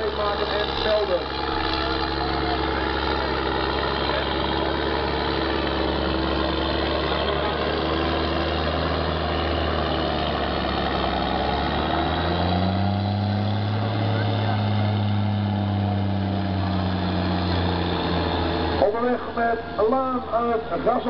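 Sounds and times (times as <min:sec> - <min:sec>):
tractor diesel engine idling: 0:00.0 - 0:21.0.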